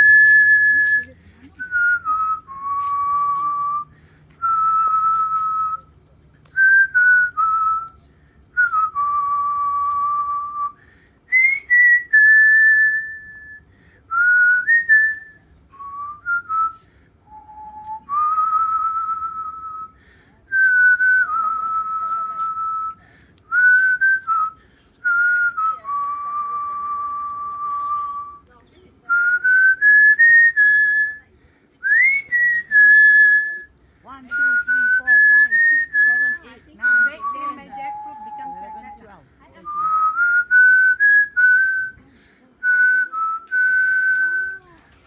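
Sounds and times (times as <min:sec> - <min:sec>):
person whistling a slow tune: 0:00.0 - 0:08.0, 0:08.6 - 0:28.5, 0:29.1 - 0:42.0, 0:42.6 - 0:44.9.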